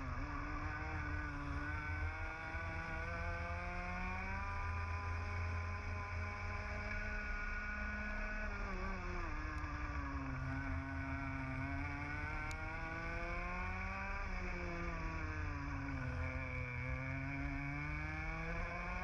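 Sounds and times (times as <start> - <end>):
kart engine racing: 0.0 - 19.0.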